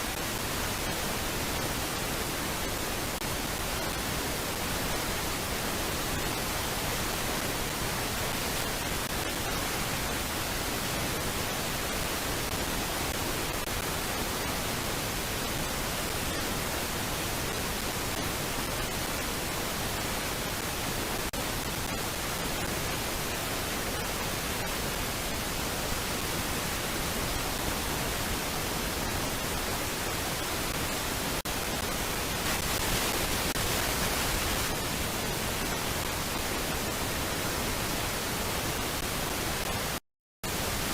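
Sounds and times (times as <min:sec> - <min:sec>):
steady static hiss: 0:00.0 - 0:40.9.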